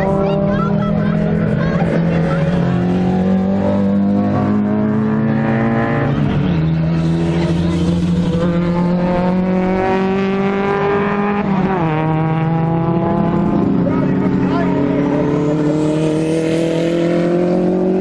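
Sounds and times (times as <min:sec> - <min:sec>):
race car engines at high revs: 0:00.0 - 0:18.0.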